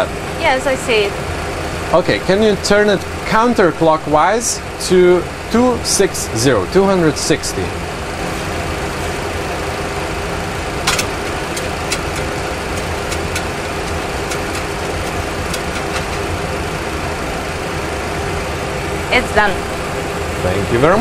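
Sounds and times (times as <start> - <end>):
cockpit hum and rumble: 0.0 - 21.0.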